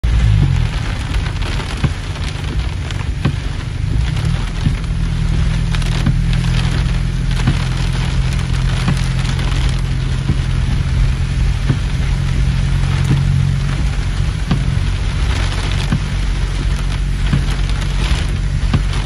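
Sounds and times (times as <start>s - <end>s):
heavy rain drumming on car roof: 0.0s - 19.0s
large raindrop taps: 0.0s - 19.0s.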